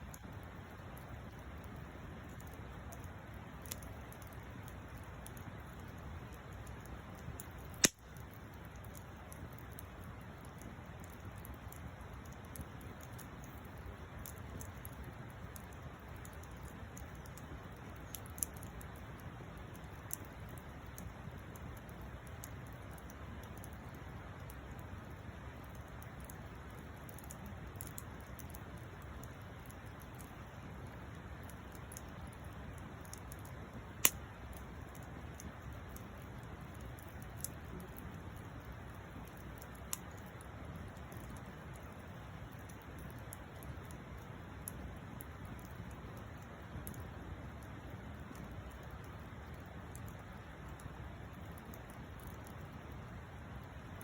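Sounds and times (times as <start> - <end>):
fire crackles: 0.0 - 54.0
wood fire burning: 0.0 - 54.0.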